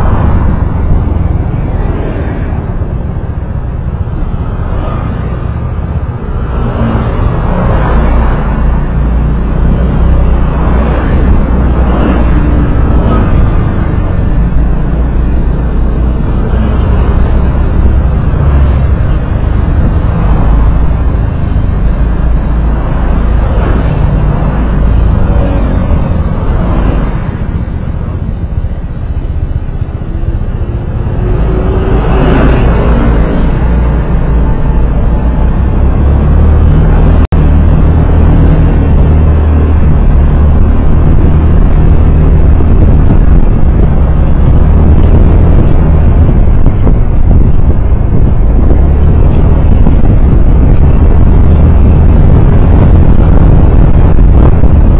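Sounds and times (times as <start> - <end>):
passing traffic noise: 0.0 - 54.9
road driving rumble: 0.0 - 54.9.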